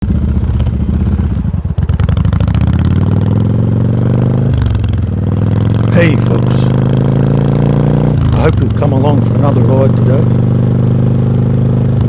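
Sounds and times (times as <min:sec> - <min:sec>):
motorcycle exhaust accelerating: 0:00.0 - 0:12.0.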